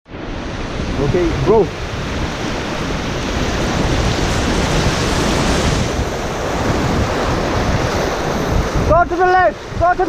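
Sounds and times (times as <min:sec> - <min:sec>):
river water rushing: 0:00.1 - 0:10.0
wind buffeting microphone: 0:00.1 - 0:10.0.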